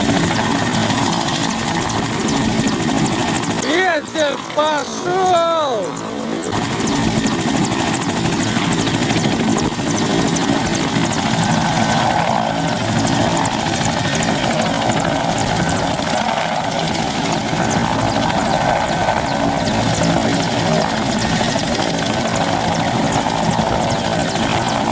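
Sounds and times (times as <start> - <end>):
helicopter rotor and engines: 0.0 - 24.9.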